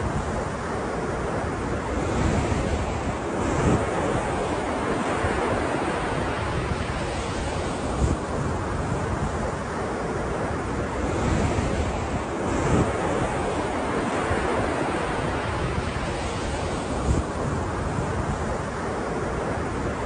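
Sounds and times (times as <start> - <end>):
ocean surf washing: 0.0 - 20.0.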